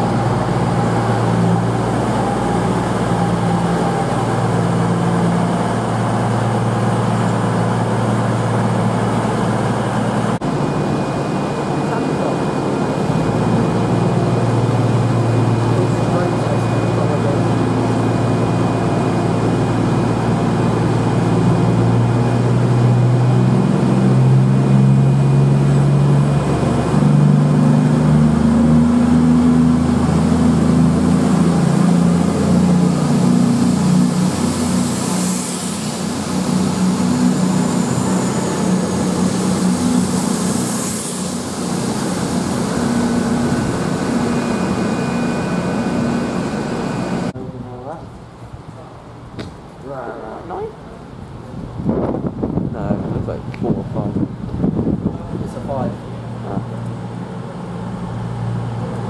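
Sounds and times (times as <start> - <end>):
diesel train engines passing: 0.0 - 59.0.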